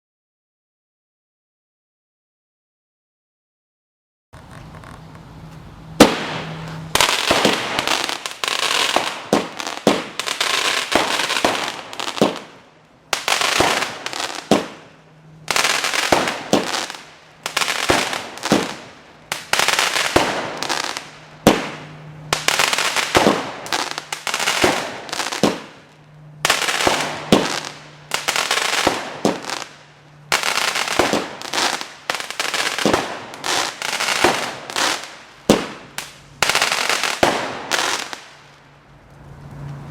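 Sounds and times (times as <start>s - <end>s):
firework crackling: 4.4s - 39.9s
firework shots: 5.4s - 39.9s.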